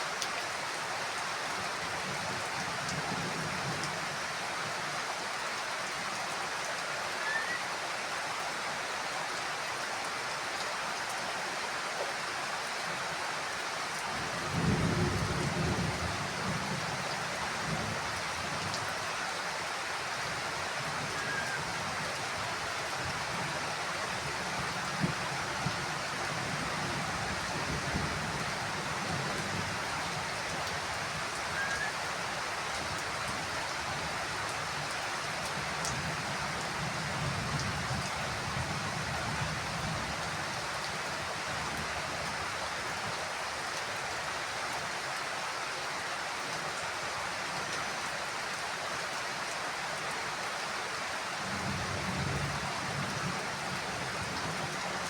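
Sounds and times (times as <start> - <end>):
heavy rain on roof: 0.0 - 55.0.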